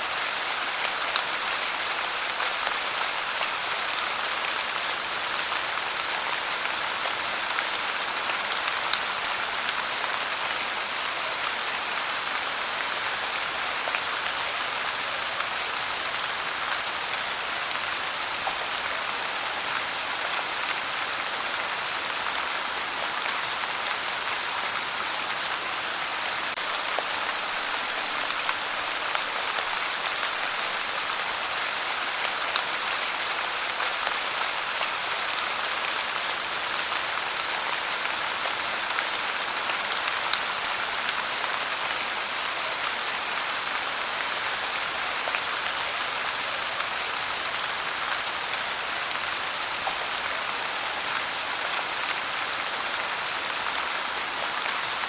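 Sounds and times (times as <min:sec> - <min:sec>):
pouring rain: 0:00.0 - 0:55.0.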